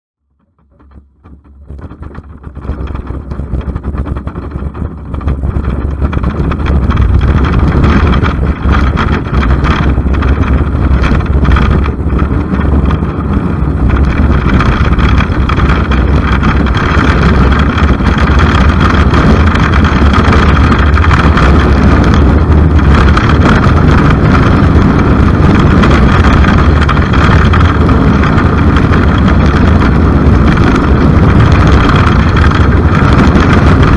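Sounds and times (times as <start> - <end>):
wind rushing over microphone: 0.3 - 33.9.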